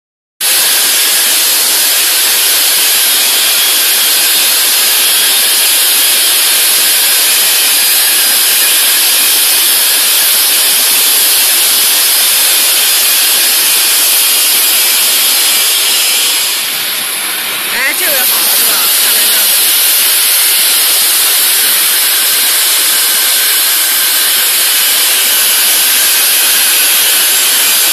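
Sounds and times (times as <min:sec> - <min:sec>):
plasma torch hissing: 0:00.4 - 0:27.9.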